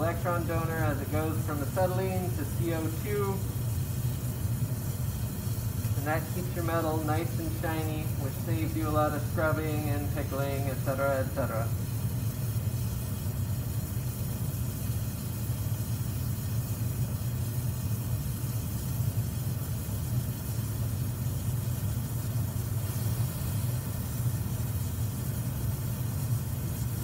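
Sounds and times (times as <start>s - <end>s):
gas torch burning with hiss: 0.0s - 27.0s.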